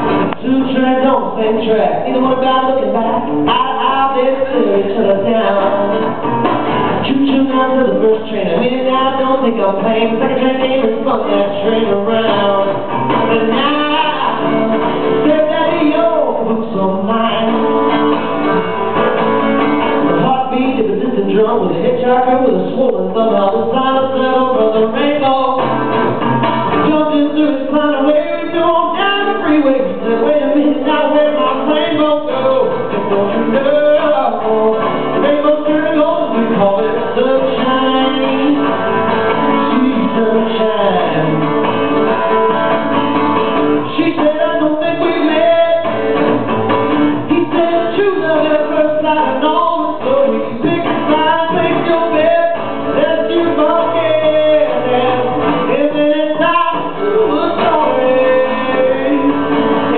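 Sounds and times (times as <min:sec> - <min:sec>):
man singing live: 0:00.0 - 0:59.9
strummed acoustic guitar: 0:00.0 - 0:59.9.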